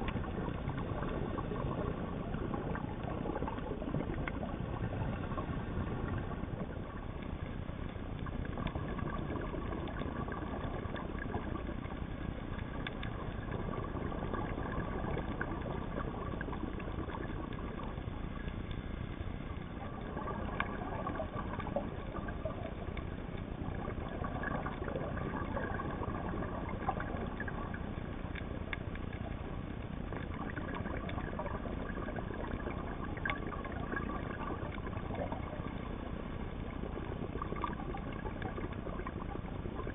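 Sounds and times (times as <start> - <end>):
underwater low rumble: 0.0 - 39.9.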